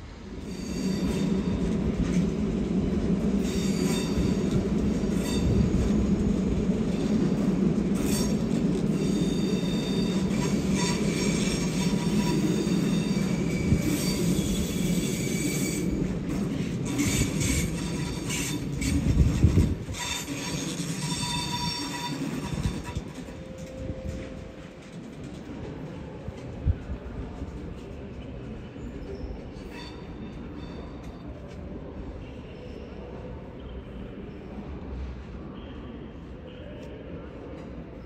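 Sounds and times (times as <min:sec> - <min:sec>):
train rumbling on tracks: 0:00.0 - 0:38.0
train wheels squealing: 0:00.2 - 0:26.2, 0:27.5 - 0:38.0.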